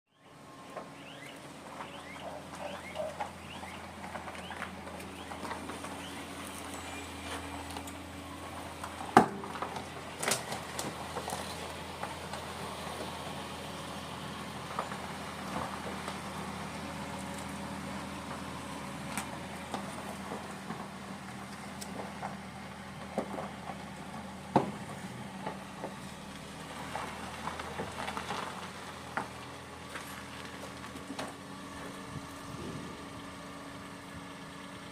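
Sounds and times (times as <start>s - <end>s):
low motor hum: 0.1s - 34.9s.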